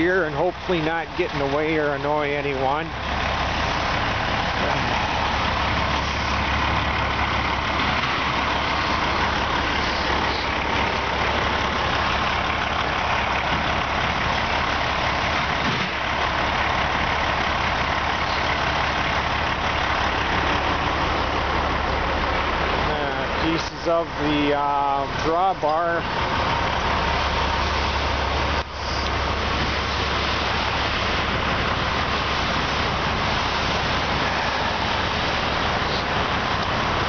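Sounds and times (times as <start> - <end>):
heavy diesel engine idling: 0.0 - 37.0.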